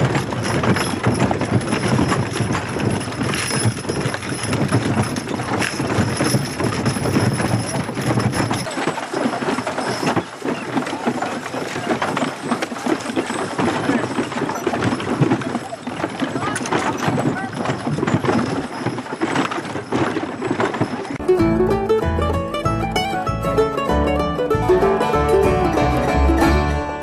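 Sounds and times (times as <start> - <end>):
horse hooves clip-clopping on grass: 0.0 - 23.9
cart rattling: 0.0 - 27.0.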